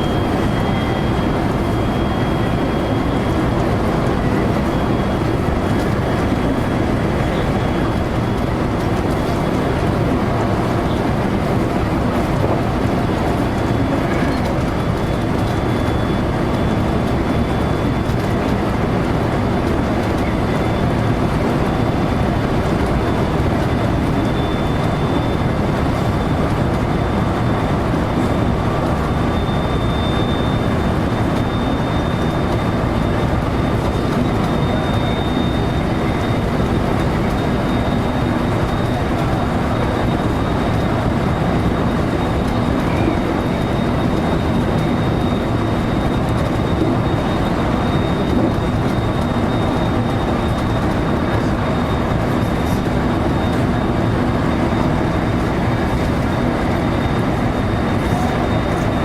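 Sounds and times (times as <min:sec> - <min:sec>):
high-pitched whine: 0:00.0 - 0:59.0
train wheels rumbling on rail: 0:00.0 - 0:59.0.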